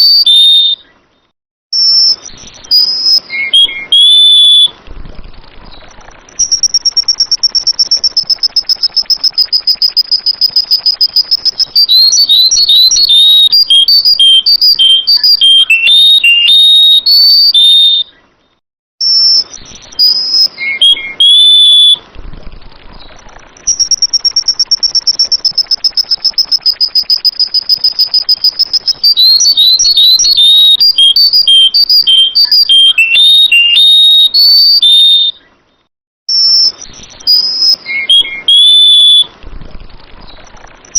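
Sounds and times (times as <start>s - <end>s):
bird whistled notes: 0.0s - 0.9s, 1.8s - 4.8s, 5.8s - 18.2s, 19.0s - 22.0s, 23.6s - 35.5s, 36.3s - 39.3s
bird song with pulsing trill: 0.0s - 40.9s.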